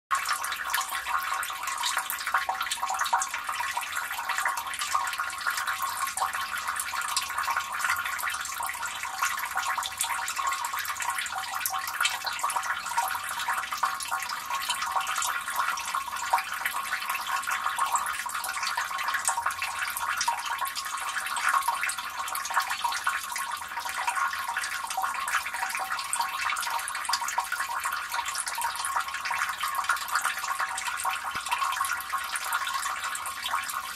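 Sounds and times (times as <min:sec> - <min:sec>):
water trickling into drain: 0:00.1 - 0:33.9.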